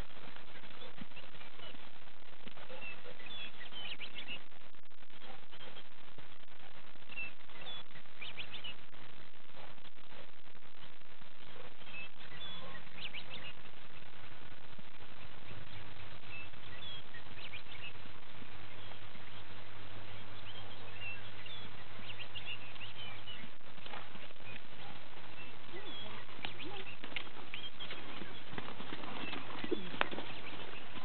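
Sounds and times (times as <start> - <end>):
low steady hum: 0.0 - 31.0
steady outdoor noise: 0.0 - 31.0.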